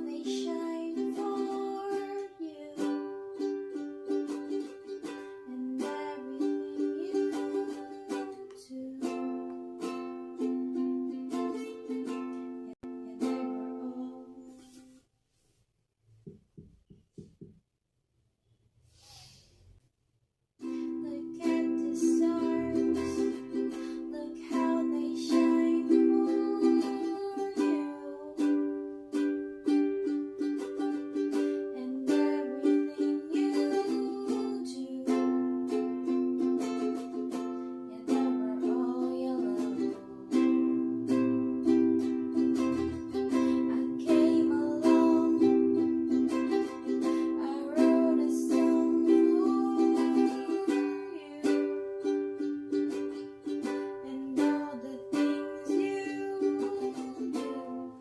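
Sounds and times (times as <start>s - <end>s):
ukulele strumming chords: 0.0s - 14.8s, 20.6s - 58.0s.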